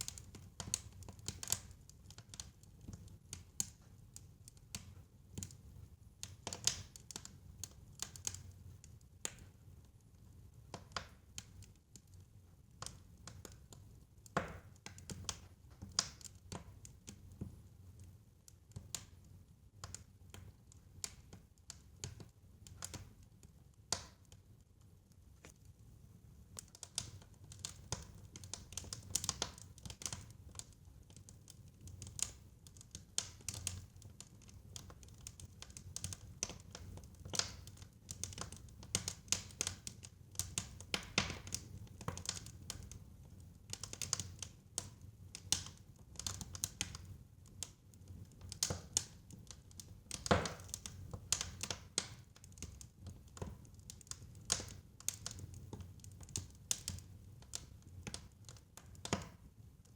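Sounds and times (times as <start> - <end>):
fire crackling and popping: 0.0 - 59.8.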